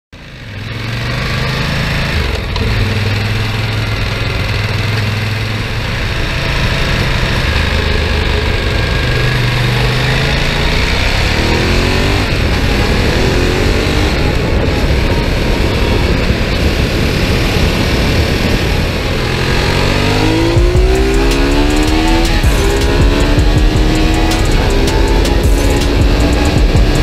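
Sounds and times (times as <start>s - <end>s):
motorcycle engine running: 0.2s - 27.0s
wind and road noise: 0.2s - 27.0s.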